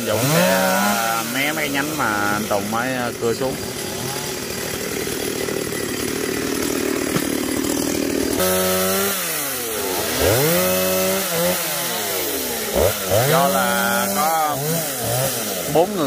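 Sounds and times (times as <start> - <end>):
chainsaw cutting branches: 0.0 - 16.0
chainsaw engine revving: 0.0 - 16.0
chainsaw running steadily: 0.0 - 16.0.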